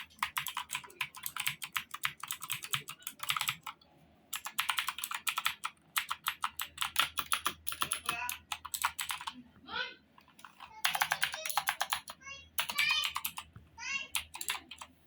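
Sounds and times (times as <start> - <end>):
fast mechanical keyboard typing: 0.0 - 9.4, 10.4 - 13.5, 14.1 - 15.0.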